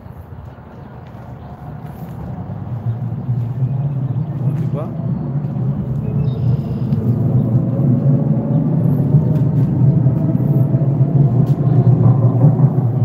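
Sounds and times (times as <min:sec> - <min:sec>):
faint engine hum: 0:00.0 - 0:13.0
road traffic rumble: 0:00.0 - 0:13.0.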